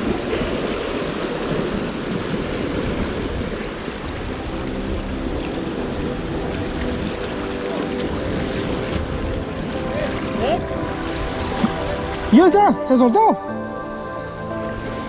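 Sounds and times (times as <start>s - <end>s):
ocean surf washing ashore: 0.0s - 15.0s.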